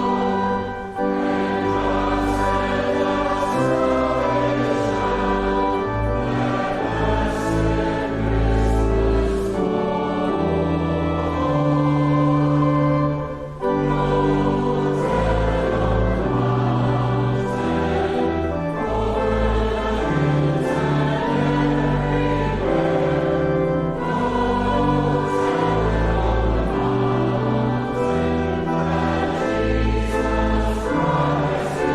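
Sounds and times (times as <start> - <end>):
group singing a hymn: 0.0 - 31.9
instrumental accompaniment: 0.0 - 31.9.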